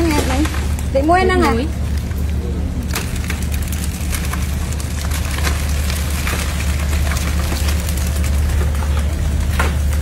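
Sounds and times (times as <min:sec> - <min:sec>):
clicks and knocks of crabs in basket: 0:00.0 - 0:10.0
low engine drone: 0:00.0 - 0:10.0.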